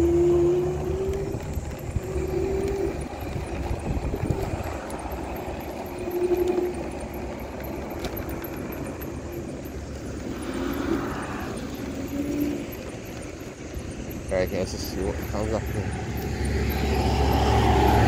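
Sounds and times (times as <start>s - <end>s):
motor whine: 0.0s - 18.0s
scooter wheels rumbling: 0.0s - 18.0s.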